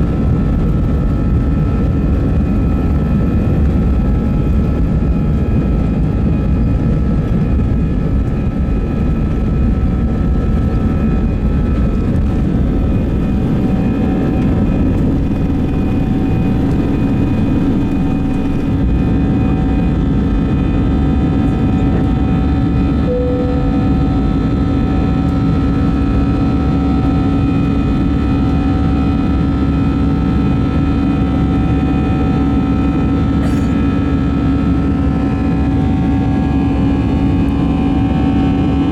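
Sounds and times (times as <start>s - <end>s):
jet engines roaring in cabin: 0.0s - 38.9s.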